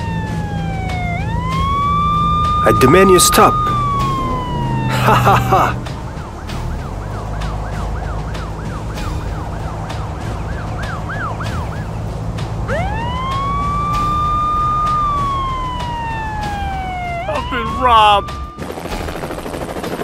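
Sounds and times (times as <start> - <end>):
police siren: 0.0 - 19.5.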